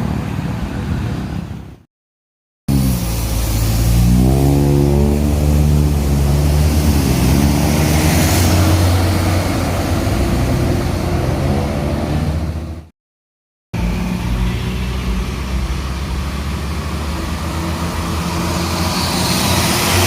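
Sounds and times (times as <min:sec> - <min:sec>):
bus diesel engine pulling hard: 0:02.7 - 0:12.9, 0:13.8 - 0:20.0.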